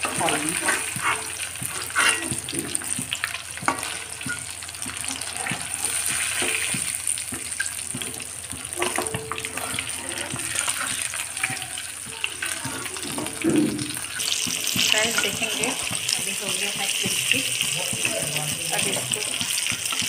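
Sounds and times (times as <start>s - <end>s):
fish deep-frying in bubbling oil: 0.0s - 20.0s
metal spoon clinking and scraping pan: 0.0s - 20.0s.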